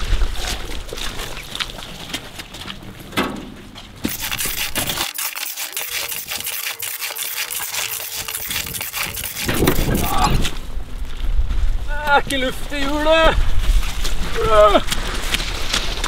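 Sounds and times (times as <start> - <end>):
gravel rattling and scraping: 0.0 - 16.0.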